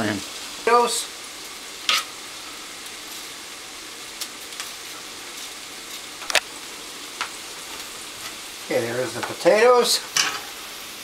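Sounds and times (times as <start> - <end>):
onion frying in a pan: 0.0 - 11.0.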